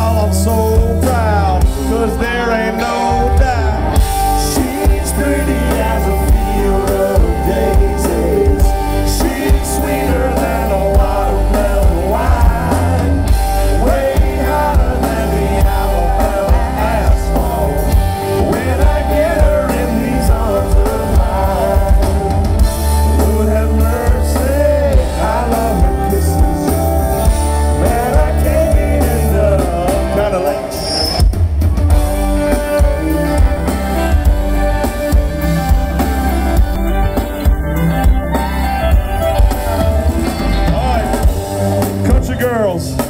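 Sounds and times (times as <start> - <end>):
live band music: 0.0 - 43.0.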